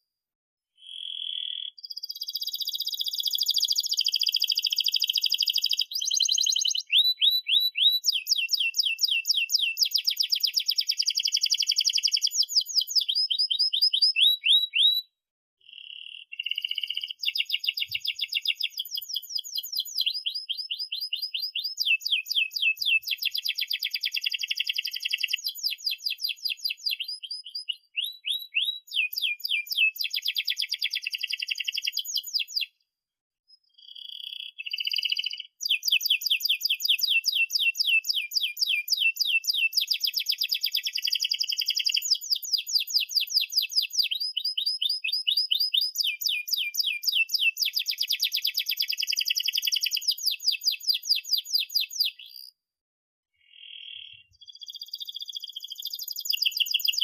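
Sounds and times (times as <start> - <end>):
canary singing: 0.8 - 32.8, 33.6 - 52.6, 53.4 - 57.0.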